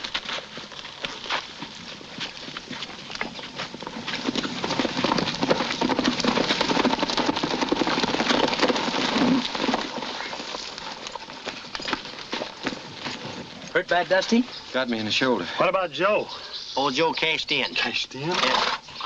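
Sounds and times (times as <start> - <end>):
horses galloping on dirt: 0.0 - 19.0.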